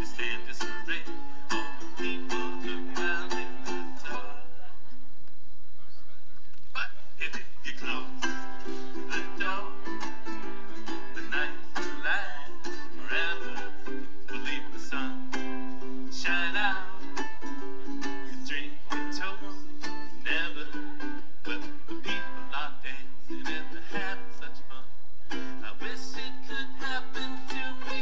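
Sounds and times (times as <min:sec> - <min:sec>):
ukulele strumming with melody: 0:00.0 - 0:04.5, 0:07.2 - 0:28.0.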